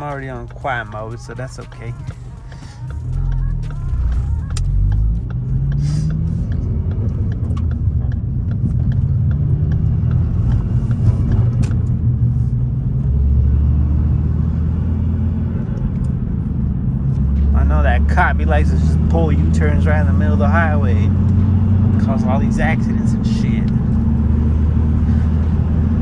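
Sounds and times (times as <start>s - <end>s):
car engine droning: 0.0s - 26.0s
road noise: 0.0s - 26.0s.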